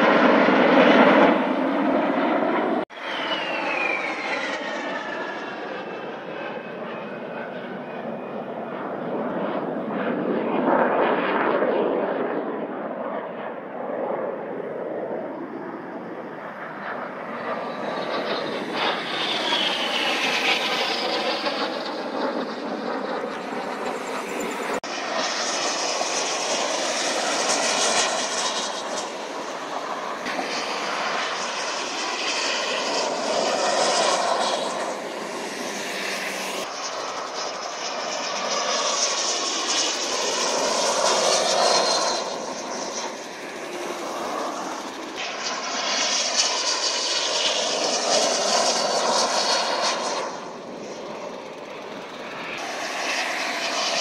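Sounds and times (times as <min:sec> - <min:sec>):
jet engine roar: 0:00.0 - 0:54.0
jet engine whine sweeping in pitch: 0:00.0 - 0:54.0.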